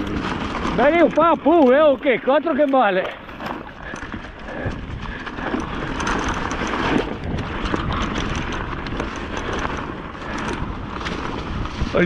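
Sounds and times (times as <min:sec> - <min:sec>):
wind on microphone: 0:00.0 - 0:01.5, 0:03.4 - 0:12.0
bike rattling: 0:00.0 - 0:12.0.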